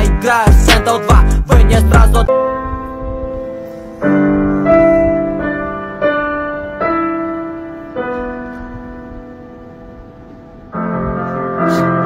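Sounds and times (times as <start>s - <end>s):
piano notes played slowly: 0.0s - 12.0s.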